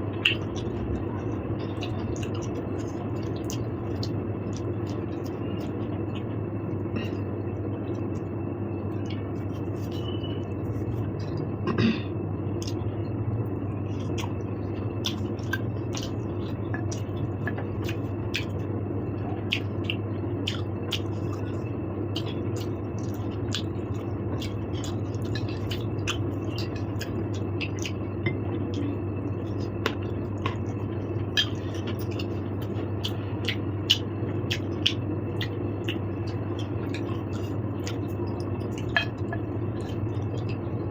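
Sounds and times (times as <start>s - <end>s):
low hum: 0.0s - 40.9s
chewing: 0.2s - 8.3s, 8.9s - 11.4s, 12.6s - 12.8s, 13.7s - 40.8s.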